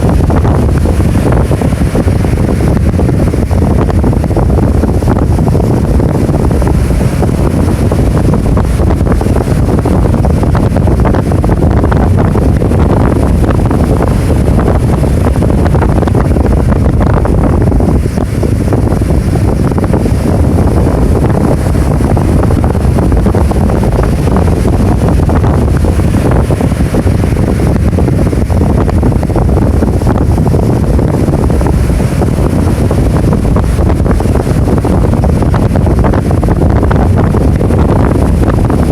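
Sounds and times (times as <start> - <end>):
surf breaking: 0.0 - 38.9
wind buffeting microphone: 0.0 - 38.9.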